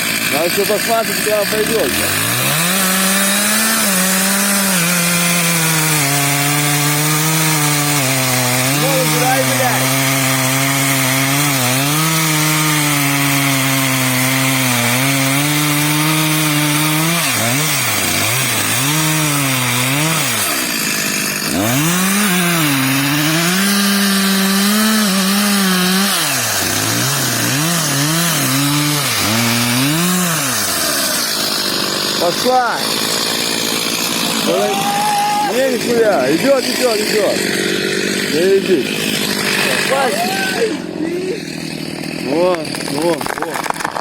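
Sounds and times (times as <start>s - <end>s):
chainsaw cutting tree trunk: 0.0s - 44.0s.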